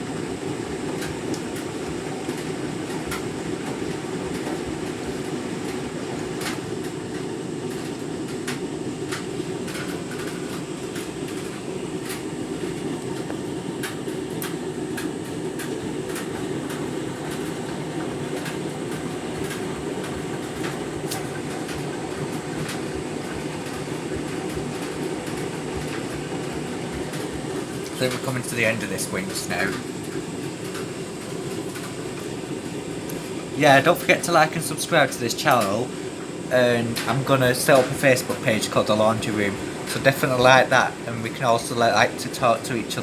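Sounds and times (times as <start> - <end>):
washing machine drum churning: 0.0 - 43.0.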